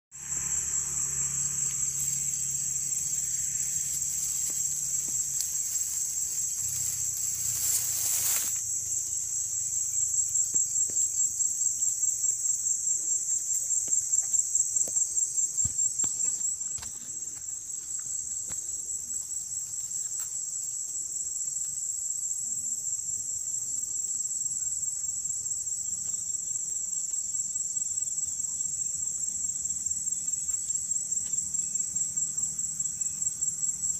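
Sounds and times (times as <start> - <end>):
insects trilling: 0.1 - 33.9.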